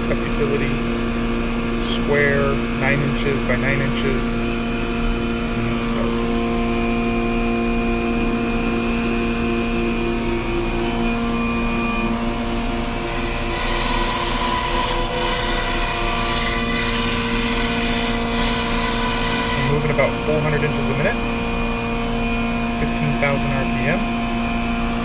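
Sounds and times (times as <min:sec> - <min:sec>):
router spindle humming: 0:00.0 - 0:25.0.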